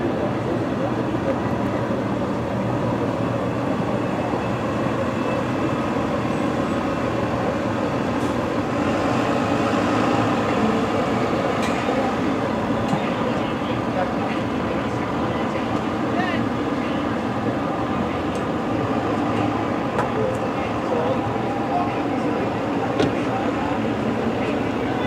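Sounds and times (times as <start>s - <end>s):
city noise: 0.0s - 25.0s.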